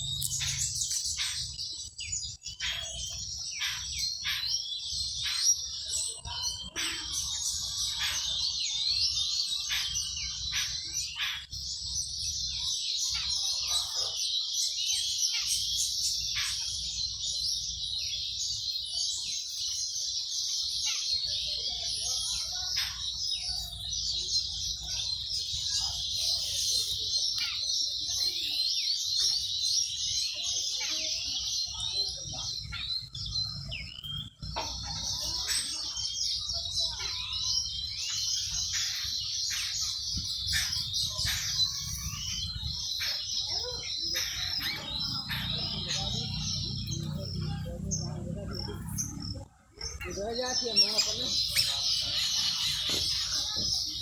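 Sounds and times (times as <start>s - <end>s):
flock of small birds chirping: 0.0s - 54.0s.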